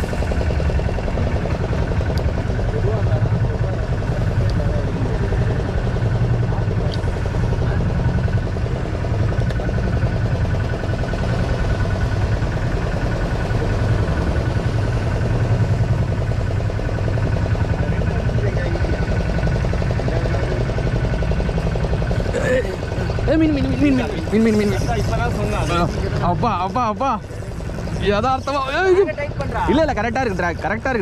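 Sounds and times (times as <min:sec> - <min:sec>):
boat engine running steadily: 0:00.0 - 0:31.0.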